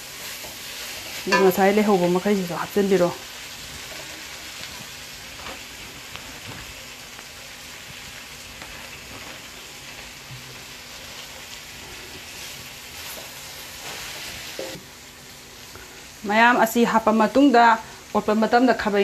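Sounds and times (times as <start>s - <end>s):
noodles sizzling in a pan: 0.0s - 19.0s.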